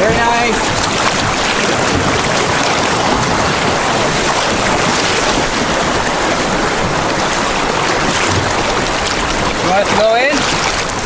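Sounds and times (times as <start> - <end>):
rush of whitewater: 0.0 - 11.0.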